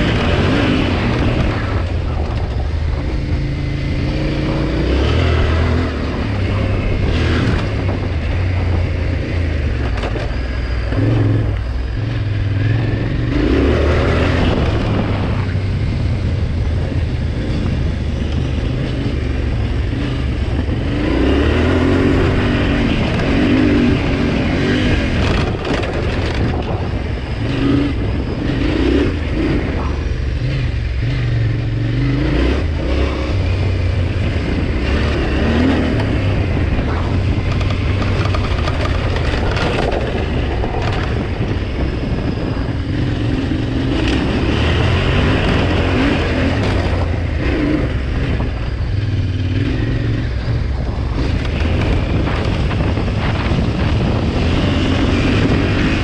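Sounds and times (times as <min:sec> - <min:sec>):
motorcycle engine revving: 0:00.0 - 0:56.0
wind noise: 0:00.0 - 0:56.0.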